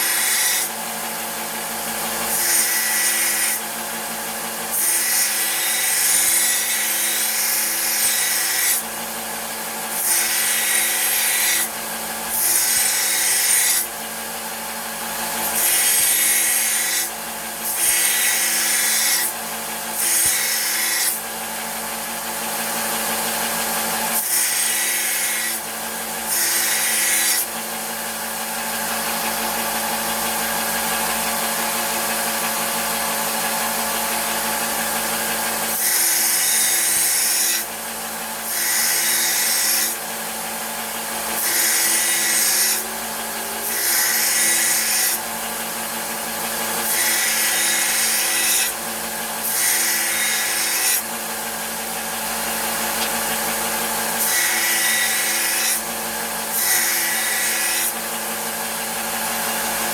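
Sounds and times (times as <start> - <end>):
metal grinding on sander belt: 0.0 - 3.7, 4.4 - 9.2, 9.8 - 14.0, 15.2 - 21.8, 22.6 - 59.9
belt sander running: 0.0 - 59.9.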